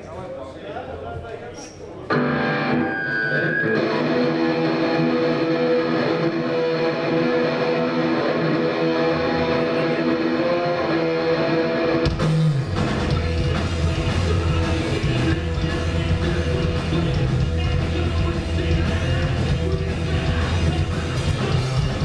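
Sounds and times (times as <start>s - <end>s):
bass guitar: 2.1s - 22.0s
drums: 2.1s - 22.0s
electric guitars ringing chords: 2.1s - 22.0s.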